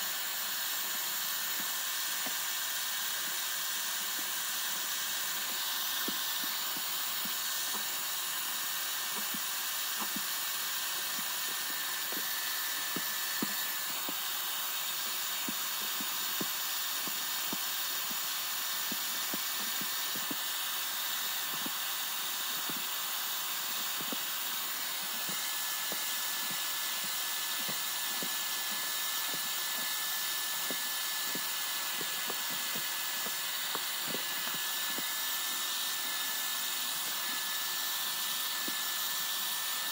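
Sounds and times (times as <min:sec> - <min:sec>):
carpet extractor hissing: 0:00.0 - 0:39.9
thin steady whine: 0:00.0 - 0:39.9.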